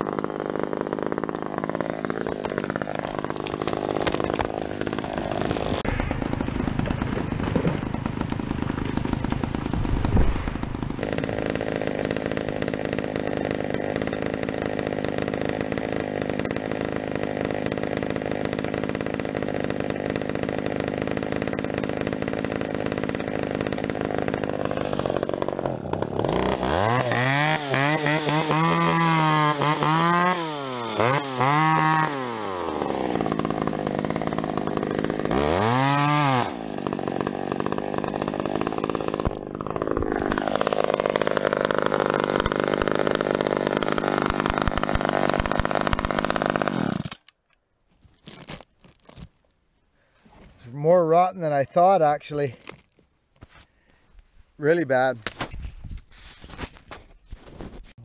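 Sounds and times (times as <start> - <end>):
chainsaw engine running: 0.0 - 47.3.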